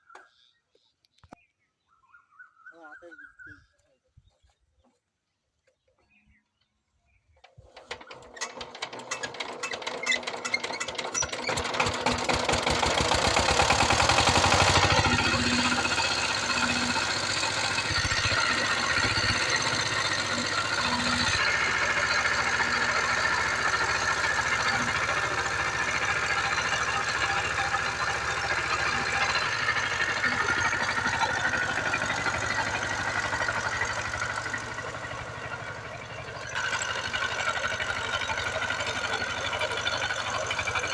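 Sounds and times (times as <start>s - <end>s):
diesel engine starting: 7.4s - 40.9s.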